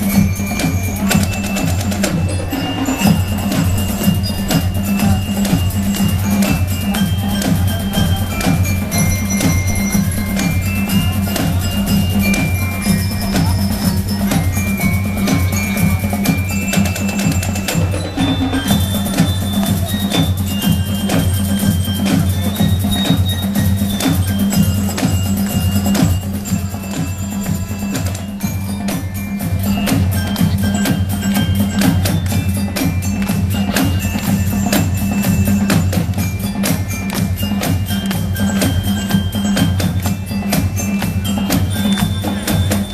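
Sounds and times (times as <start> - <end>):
drums pounding: 0.0 - 42.9
high bell-like notes: 0.0 - 42.9
marching band playing: 0.0 - 42.9.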